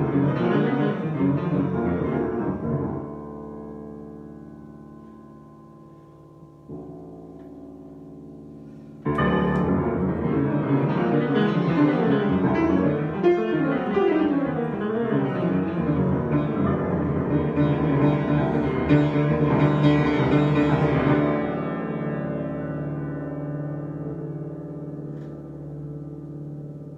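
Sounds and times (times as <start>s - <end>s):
solo piano: 0.0s - 26.9s.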